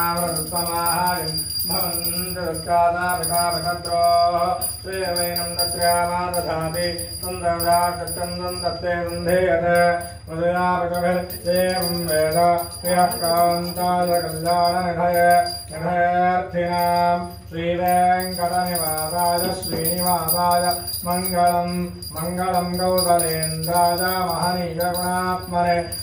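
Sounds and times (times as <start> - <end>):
bell ringing: 0.0 - 10.3, 10.9 - 15.9, 16.7 - 26.0
devotional singing: 0.0 - 26.0.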